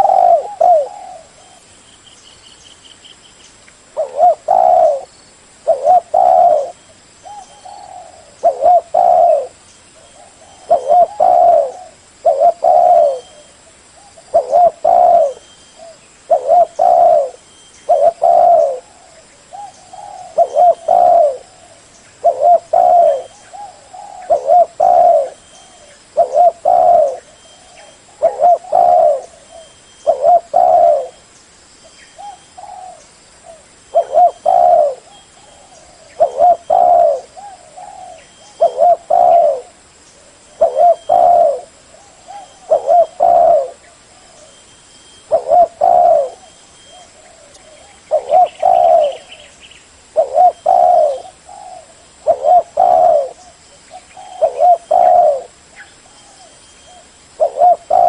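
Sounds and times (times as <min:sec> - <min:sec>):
dove cooing: 0:00.0 - 0:01.7, 0:03.9 - 0:31.3, 0:32.1 - 0:58.0.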